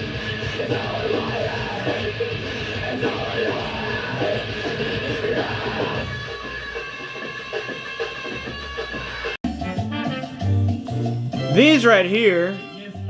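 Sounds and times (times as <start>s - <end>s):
rock music with distorted guitar: 0.0s - 13.0s.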